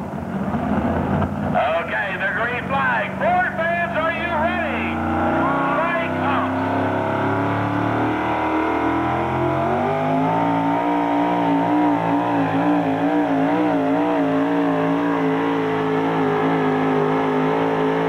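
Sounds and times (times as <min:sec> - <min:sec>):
truck engine at full throttle: 0:00.0 - 0:18.0.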